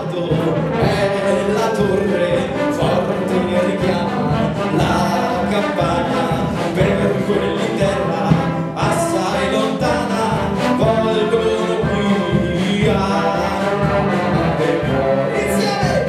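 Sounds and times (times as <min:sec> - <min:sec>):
man singing through microphone: 0:00.0 - 0:16.0
wind band playing a hymn: 0:00.0 - 0:16.0.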